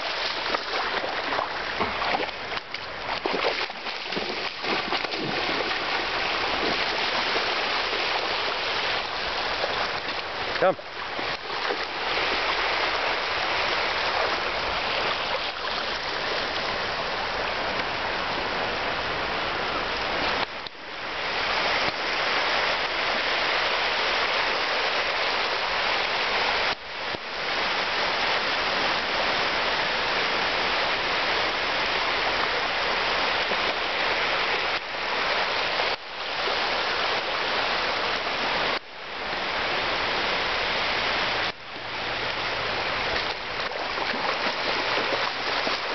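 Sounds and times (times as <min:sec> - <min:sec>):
small waves breaking: 0:00.0 - 0:45.9.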